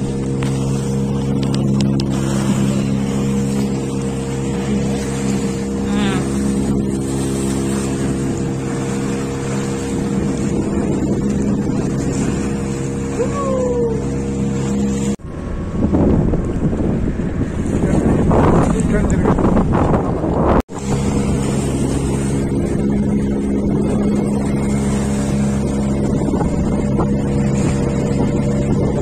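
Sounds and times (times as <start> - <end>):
motorboat engine running: 0.0 - 29.0
water rushing against hull: 0.0 - 29.0
wind on microphone: 0.0 - 29.0.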